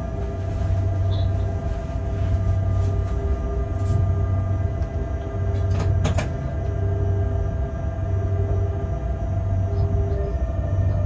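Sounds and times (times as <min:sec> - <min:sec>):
locomotive cab rumble: 0:00.0 - 0:11.0.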